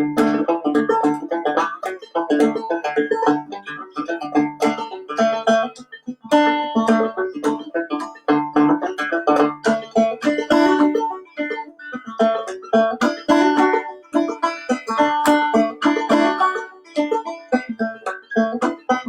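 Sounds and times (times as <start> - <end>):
banjo playing: 0.0 - 19.0.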